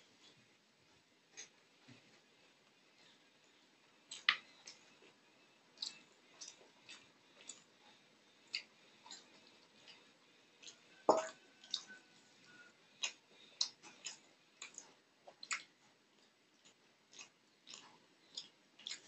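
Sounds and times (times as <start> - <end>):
wet chewing clicks and smacks: 3.4 - 19.0.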